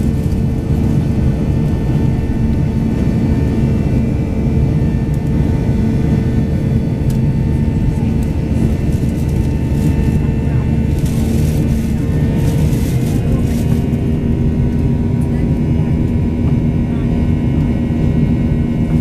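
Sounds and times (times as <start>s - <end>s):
airplane cabin engine rumble: 0.0s - 19.0s
constant hum: 0.0s - 19.0s.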